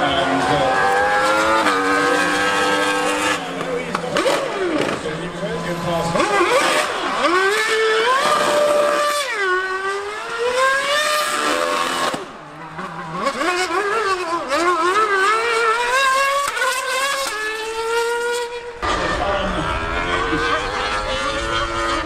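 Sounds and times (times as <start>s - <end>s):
racing engines revving: 0.0s - 22.0s.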